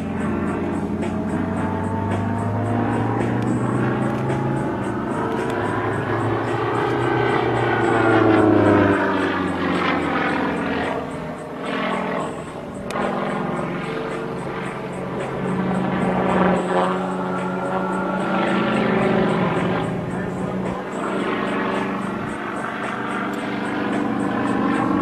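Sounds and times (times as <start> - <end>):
aerobatic plane engine and propeller: 0.0 - 25.0.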